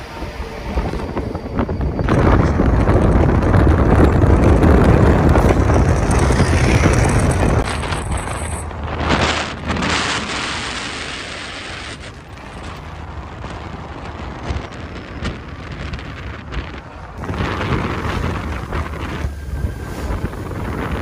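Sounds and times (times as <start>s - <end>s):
tyre and wind rush: 0.0s - 21.0s
wind buffeting microphone: 0.0s - 21.0s.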